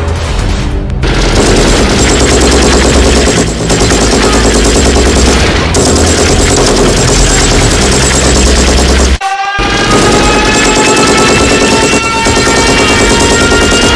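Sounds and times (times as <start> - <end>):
rapid automatic gunfire: 1.0 - 13.9.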